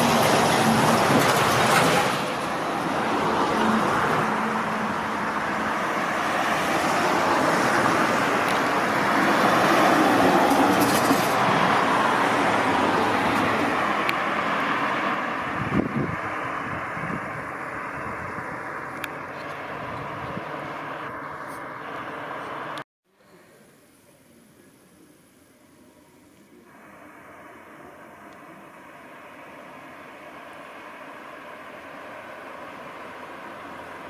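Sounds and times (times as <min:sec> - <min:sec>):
vehicles driving past: 0:00.0 - 0:22.8, 0:26.6 - 0:34.0.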